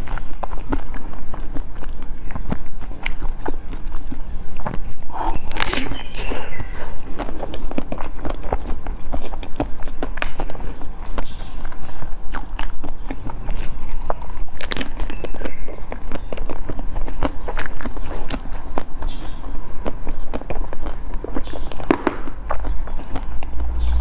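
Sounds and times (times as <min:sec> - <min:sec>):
person chewing with wet mouth clicks: 0:00.0 - 0:24.0.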